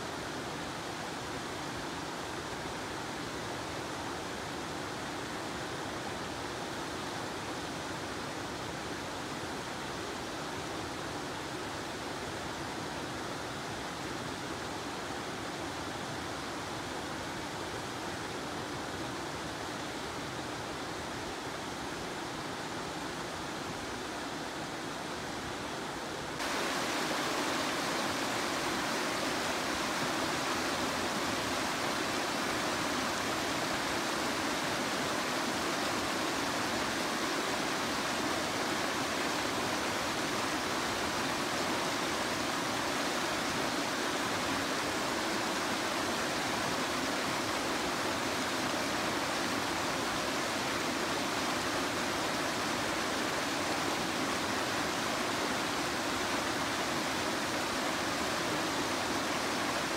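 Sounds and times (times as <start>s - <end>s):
river water rushing over weir: 0.0s - 59.9s.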